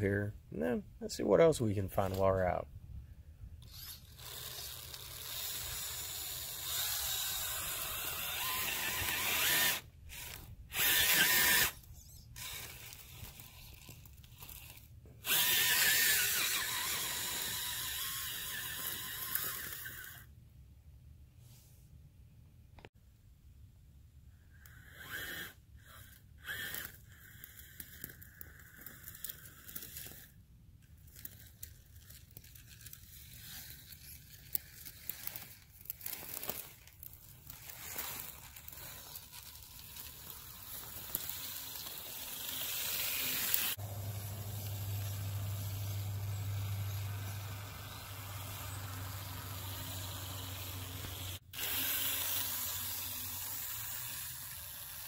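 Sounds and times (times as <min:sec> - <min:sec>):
rc truck crackling through grass: 0:03.6 - 0:20.3, 0:25.1 - 0:55.0.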